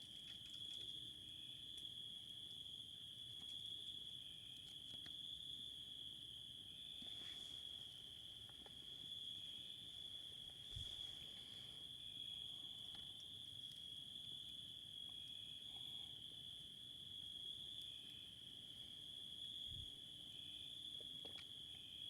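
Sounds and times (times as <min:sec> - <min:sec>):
cricket trilling: 0:00.0 - 0:22.0.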